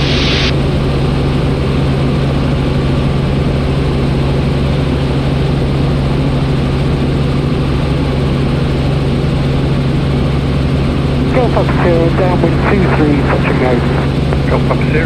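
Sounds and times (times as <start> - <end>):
helicopter engine and rotor hum: 0.0 - 15.0.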